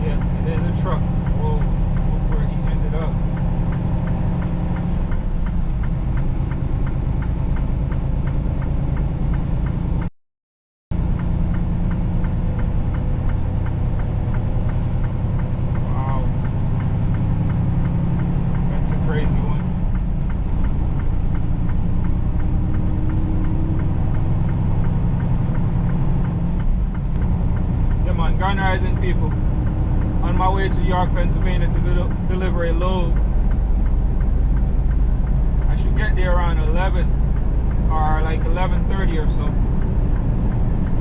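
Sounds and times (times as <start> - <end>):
diesel truck engine droning: 0.0 - 10.1, 10.9 - 41.0
turn signal ticking: 0.0 - 10.1, 10.9 - 41.0.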